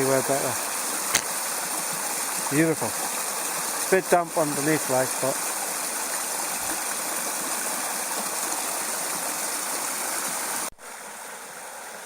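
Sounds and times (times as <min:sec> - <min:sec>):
stream running over stones: 0:00.0 - 0:12.0.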